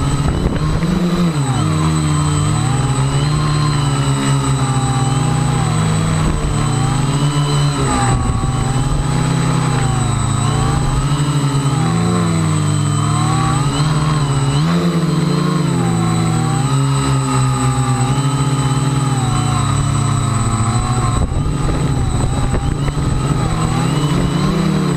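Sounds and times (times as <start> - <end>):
quadcopter motors whining: 0.0 - 24.9.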